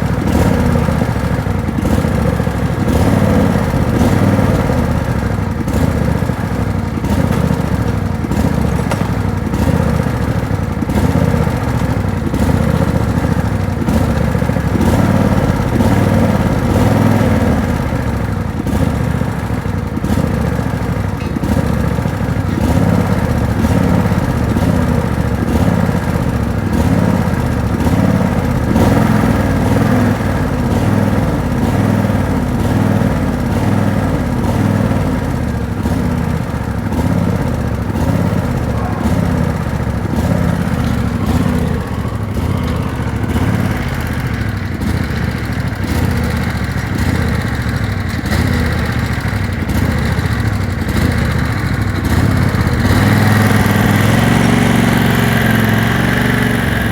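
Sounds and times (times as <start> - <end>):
tractor engine rumbling: 0.0 - 56.9.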